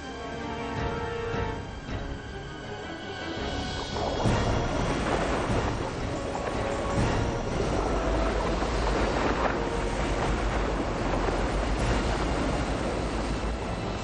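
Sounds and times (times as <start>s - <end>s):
churning water rushing: 0.0s - 14.0s.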